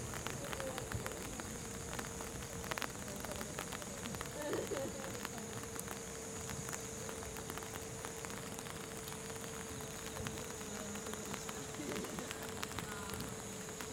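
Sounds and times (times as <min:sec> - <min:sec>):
faint steady high tones: 0:00.0 - 0:13.9
rain pattering on umbrella: 0:00.0 - 0:13.9.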